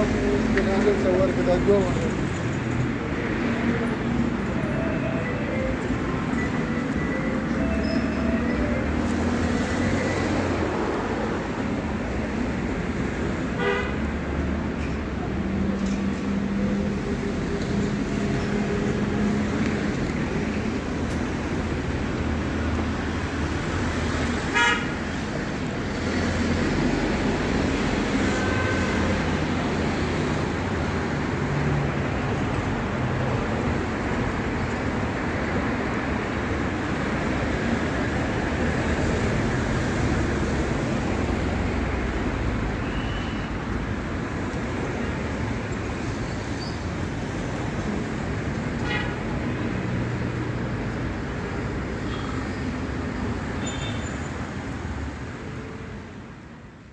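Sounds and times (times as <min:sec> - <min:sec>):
road traffic: 0:00.0 - 0:56.9.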